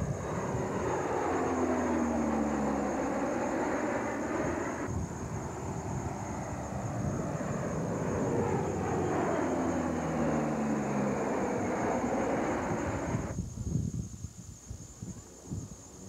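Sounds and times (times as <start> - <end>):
aircraft engines running: 0.0 - 13.4.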